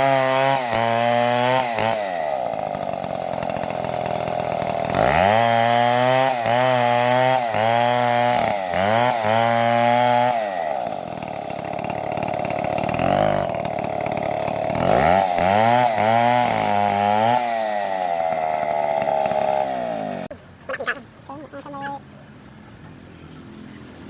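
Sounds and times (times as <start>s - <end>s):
chainsaw revving: 0.0s - 20.3s.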